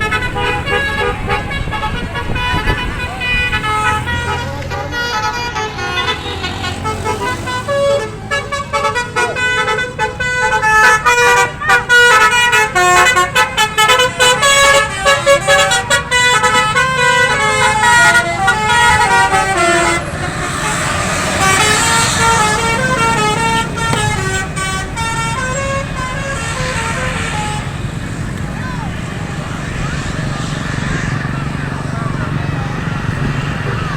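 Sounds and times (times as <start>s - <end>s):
musical air horn tune: 0.0s - 27.9s
rushing background noise: 0.0s - 33.9s.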